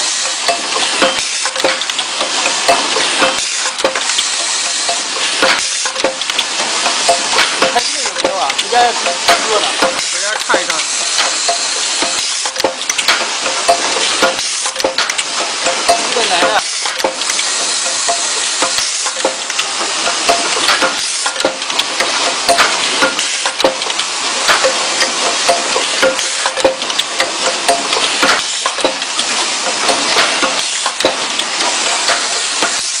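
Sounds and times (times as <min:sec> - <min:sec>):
machine hissing and clattering: 0:00.0 - 0:33.0.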